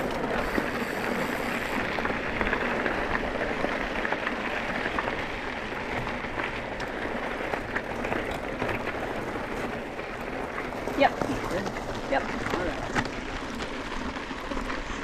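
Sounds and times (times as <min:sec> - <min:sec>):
bike tyres rolling over gravel: 0:00.0 - 0:15.0.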